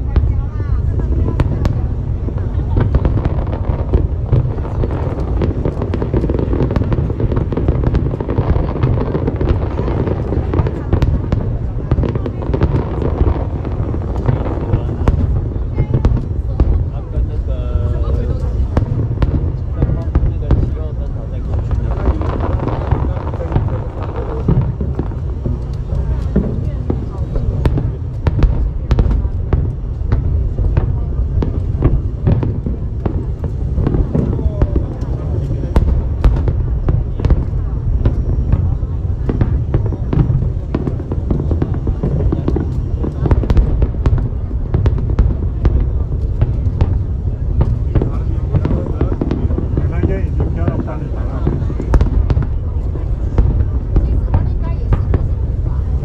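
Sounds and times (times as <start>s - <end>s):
fireworks bursts rumbling: 0.0s - 56.0s
fireworks crackling: 0.0s - 56.0s.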